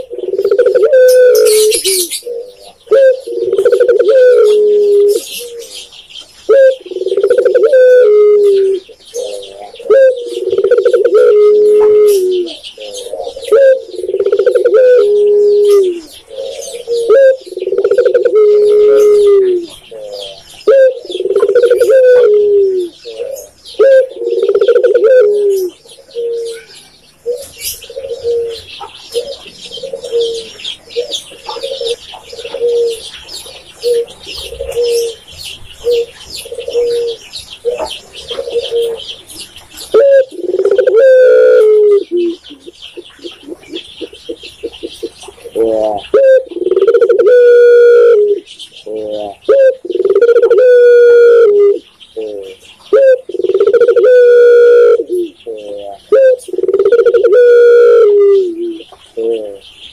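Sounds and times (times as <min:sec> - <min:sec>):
dove cooing: 0:00.0 - 0:59.9
small birds chirping: 0:00.0 - 0:59.9.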